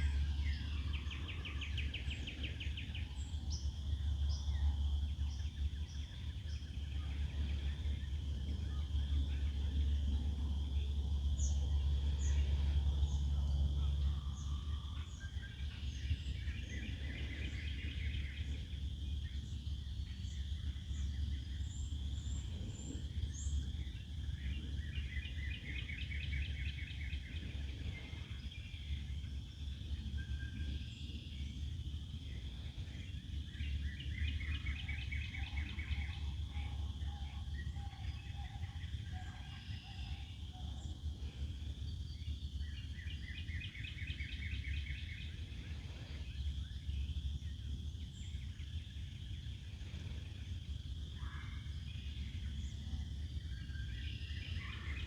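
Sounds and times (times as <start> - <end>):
birds singing trills: 0.0 - 55.0
steady low rumble: 0.0 - 55.0.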